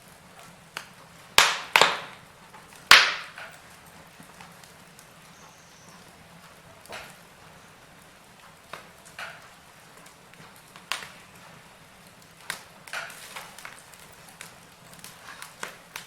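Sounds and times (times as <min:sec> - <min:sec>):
low steady hiss: 0:00.0 - 0:16.0
wood fire crackling: 0:00.0 - 0:16.0.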